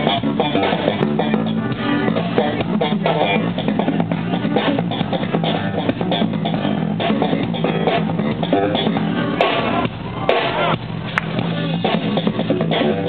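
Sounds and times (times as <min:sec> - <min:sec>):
drum kit playing: 0:00.0 - 0:13.0
electric bass guitar: 0:00.0 - 0:13.0.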